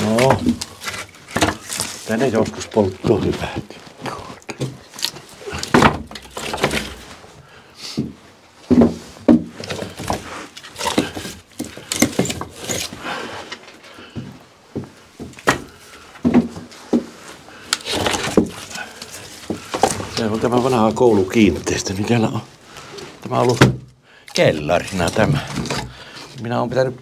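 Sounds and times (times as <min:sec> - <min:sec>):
wooden logs knocking and clattering: 0:00.0 - 0:07.2, 0:08.0 - 0:22.4, 0:23.2 - 0:27.0.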